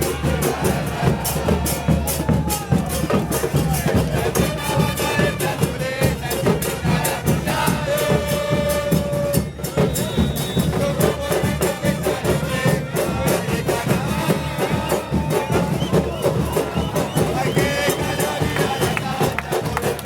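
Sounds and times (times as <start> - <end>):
crowd singing a chant: 0.0 - 20.0
drums beating: 0.0 - 20.0.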